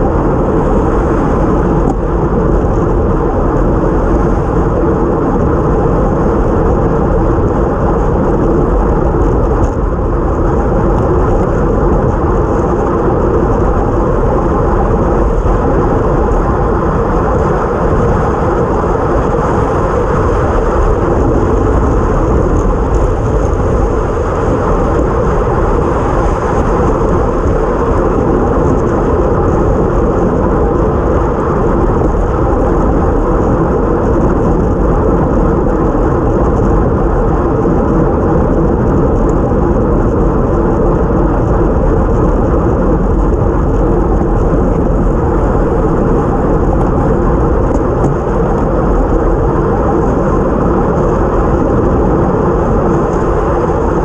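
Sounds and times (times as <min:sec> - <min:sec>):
loud wind rush on camera: 0:00.0 - 0:54.0
tyre noise on wet road: 0:00.0 - 0:54.0.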